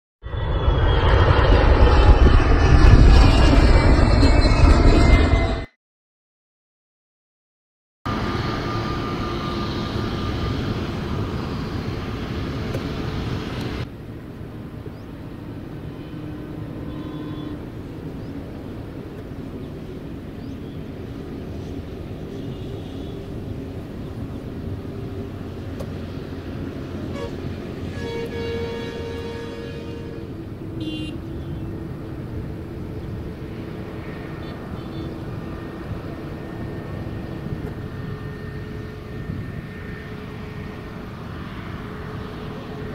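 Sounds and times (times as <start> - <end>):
distant jet engines running: 0.2 - 5.7, 8.1 - 42.9.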